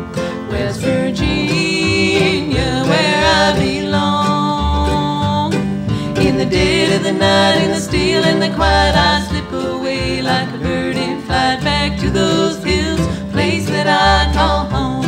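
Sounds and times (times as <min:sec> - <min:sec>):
acoustic guitar playing: 0:00.0 - 0:15.0
plucked strings: 0:00.0 - 0:15.0.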